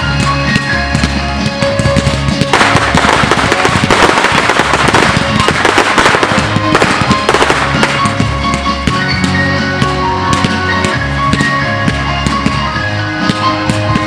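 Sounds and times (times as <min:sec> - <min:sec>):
fireworks bursting and crackling: 0:00.0 - 0:14.0
loud music: 0:00.0 - 0:14.0.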